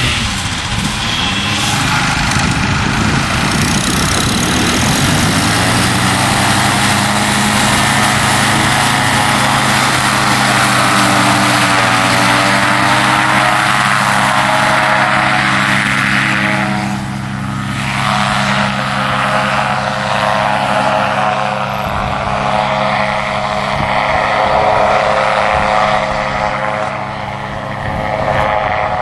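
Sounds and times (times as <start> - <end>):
paramotor engine and propeller: 0.0 - 29.0.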